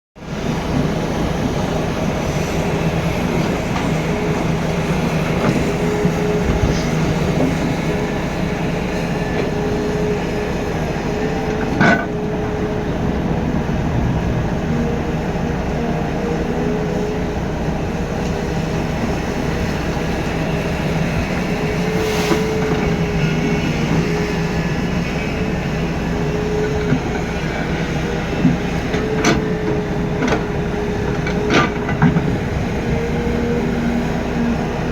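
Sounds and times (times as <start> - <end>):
diesel truck engine running: 0.2 - 34.9.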